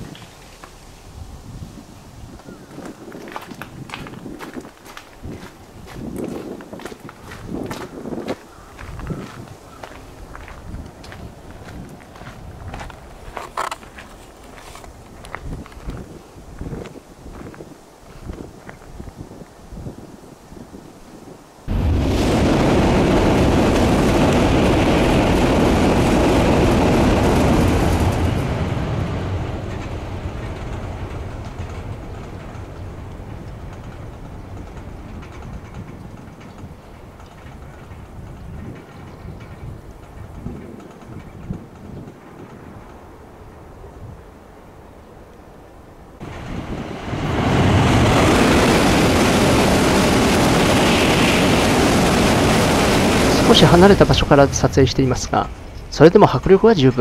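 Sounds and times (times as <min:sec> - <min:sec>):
high-speed train rushing and rumbling: 0:00.0 - 0:20.0, 0:21.6 - 0:57.0.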